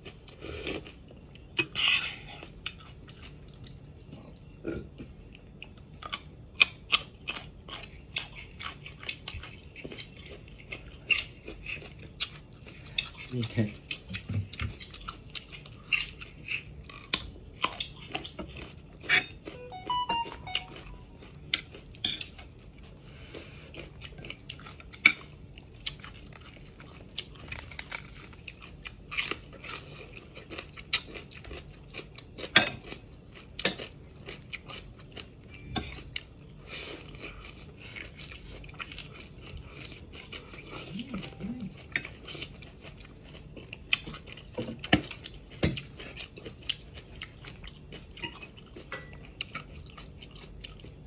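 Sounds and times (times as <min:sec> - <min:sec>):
crunchy vegetables being chewed: 0:00.0 - 0:51.0.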